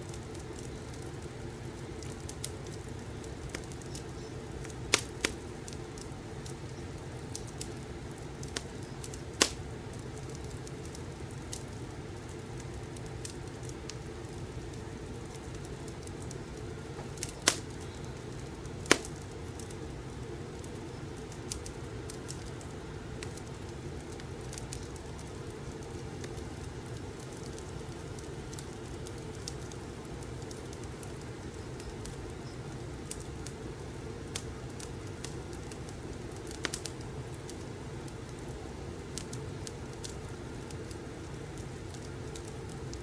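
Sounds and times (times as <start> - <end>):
fire crackles and pops: 0.0 - 43.0
logs burning with low rumble: 0.0 - 43.0.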